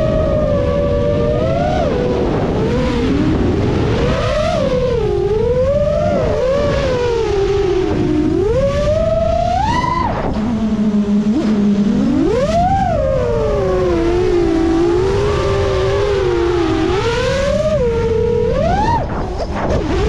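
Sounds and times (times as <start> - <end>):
quadcopter motors whining: 0.0 - 20.0
wind rush on microphone: 0.0 - 20.0.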